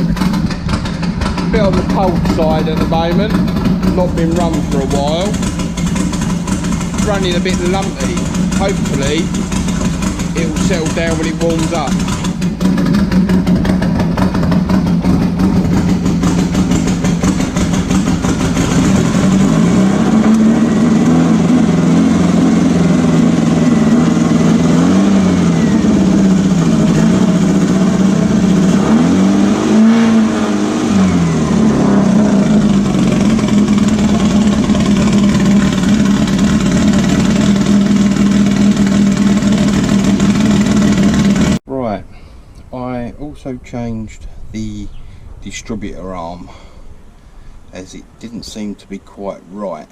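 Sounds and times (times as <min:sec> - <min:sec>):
misfiring engine idling and revving: 0:00.0 - 0:41.7.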